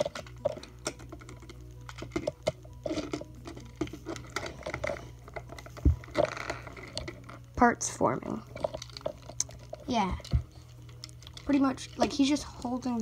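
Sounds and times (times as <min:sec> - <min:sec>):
plastic toy parts clicking and snapping: 0:00.0 - 0:07.4, 0:08.5 - 0:12.8.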